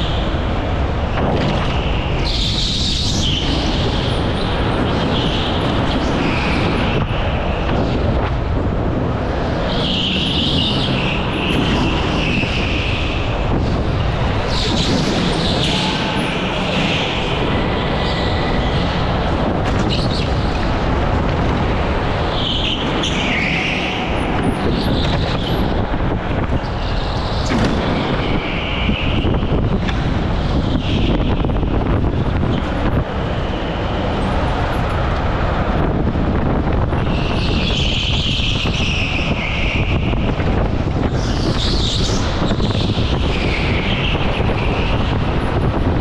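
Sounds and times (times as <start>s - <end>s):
go-kart engine and wind rush: 0.0s - 46.0s.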